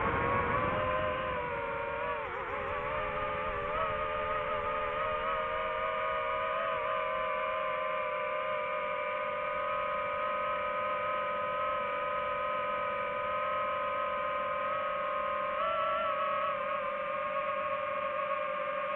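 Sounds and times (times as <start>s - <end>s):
drone propellers whining: 0.0s - 18.9s.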